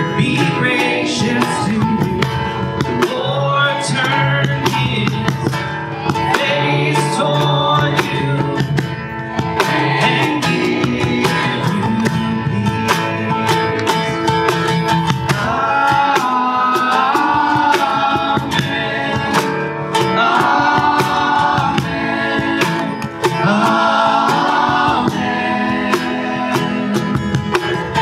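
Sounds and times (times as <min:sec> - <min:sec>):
acoustic guitar strummed: 0:00.0 - 0:28.0
cajon beat: 0:00.0 - 0:28.0
voices singing: 0:00.0 - 0:28.0.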